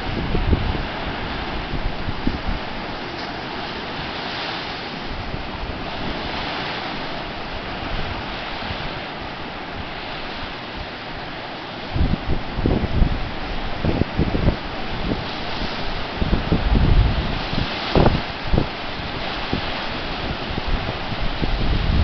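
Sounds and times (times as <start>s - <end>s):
sea surf washing on beach: 0.0s - 22.0s
wind on microphone: 0.0s - 22.0s.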